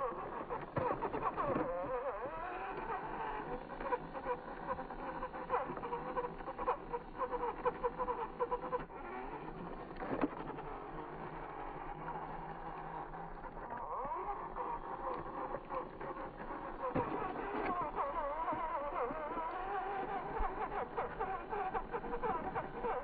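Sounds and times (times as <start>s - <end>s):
toy electric motor whine: 0.0s - 23.0s.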